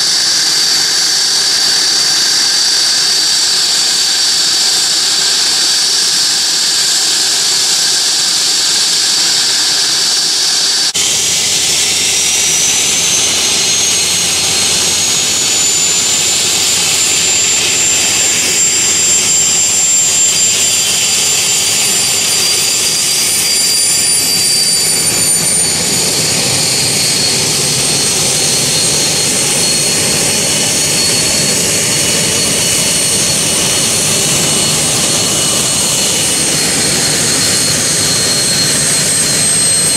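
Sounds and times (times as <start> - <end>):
jet engine roar with whine: 0.0 - 39.9.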